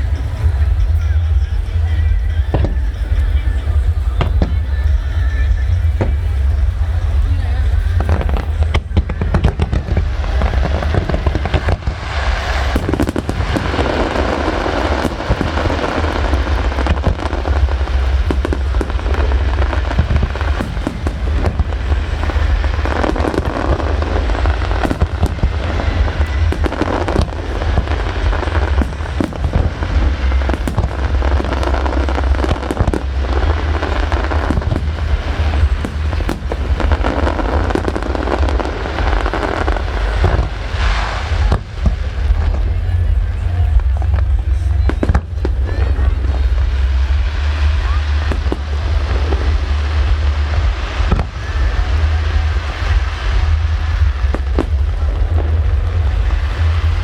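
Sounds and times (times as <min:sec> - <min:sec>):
fireworks bursts and crackles: 0:00.0 - 0:57.0.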